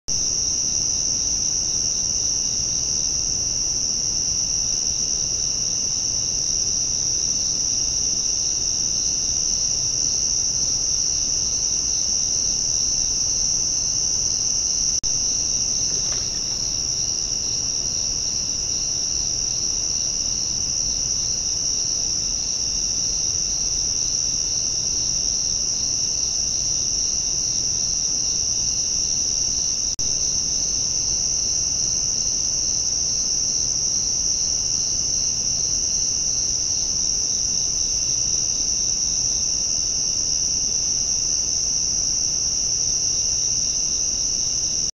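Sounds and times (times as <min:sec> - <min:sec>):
crickets trilling: 0:00.1 - 0:44.9
pulsing insect trill: 0:00.2 - 0:44.9.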